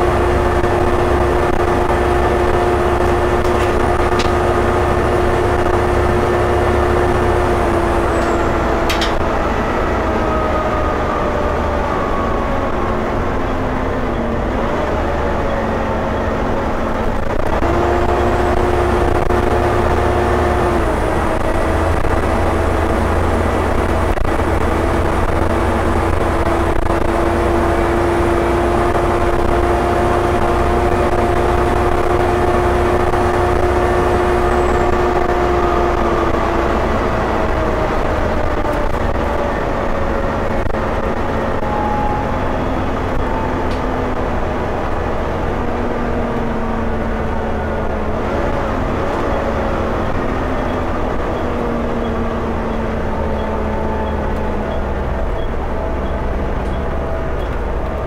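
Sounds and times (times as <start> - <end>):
bus engine and road rumble: 0.0 - 58.0
drivetrain whine: 0.0 - 58.0.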